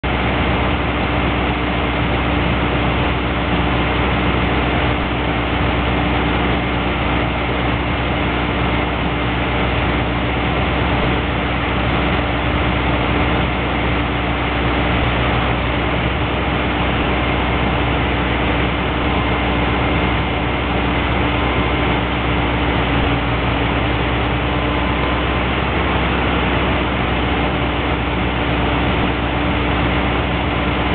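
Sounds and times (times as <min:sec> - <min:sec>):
drill rig engine running: 0:00.0 - 0:30.9.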